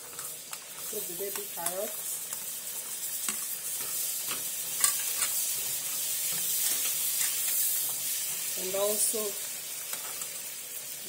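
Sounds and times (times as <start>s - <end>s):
carrots sizzling in butter: 0.0s - 11.0s.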